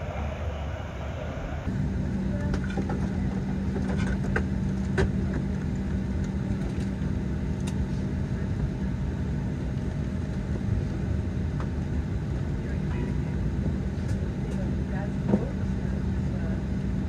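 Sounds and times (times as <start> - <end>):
aircraft cabin hum: 0.0 - 17.0
low rumble: 0.0 - 17.0.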